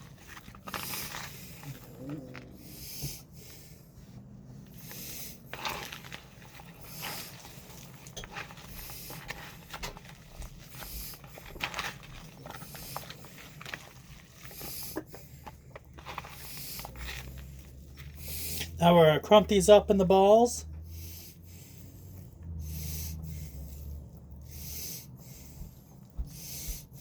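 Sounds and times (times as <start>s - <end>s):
hands kneading raw meat: 0.0s - 27.0s.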